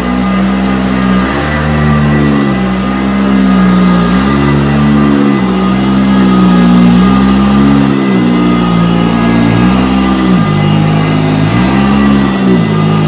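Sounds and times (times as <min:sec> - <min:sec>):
vacuum cleaner motor: 0:00.0 - 0:13.0.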